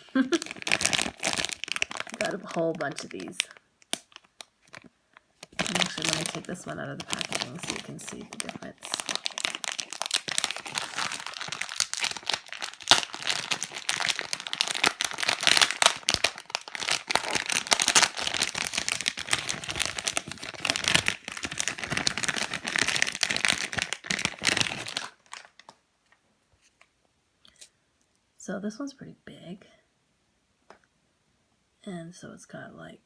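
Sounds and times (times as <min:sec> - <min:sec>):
plastic packaging crinkling: 0:00.0 - 0:26.9.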